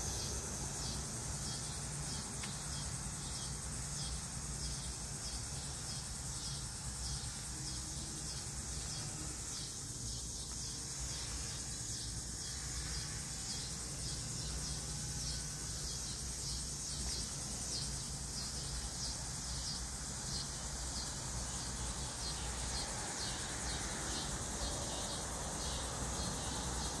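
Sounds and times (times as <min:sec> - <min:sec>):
insect high chirps: 0:00.0 - 0:27.0
insects buzzing: 0:00.0 - 0:27.0.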